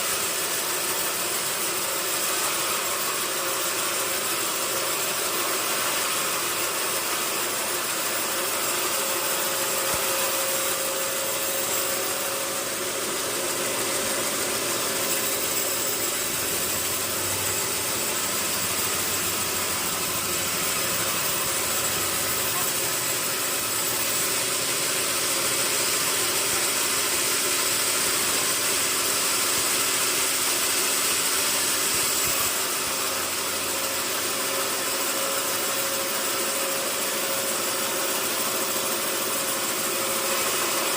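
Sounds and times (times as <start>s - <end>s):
sawmill machinery droning: 0.0s - 40.9s.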